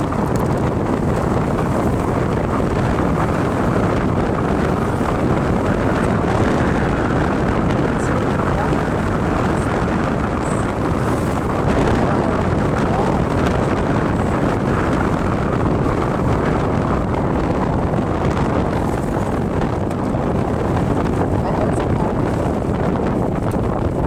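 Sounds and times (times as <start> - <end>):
road noise: 0.0 - 24.0
wind roaring over microphone: 0.0 - 24.0.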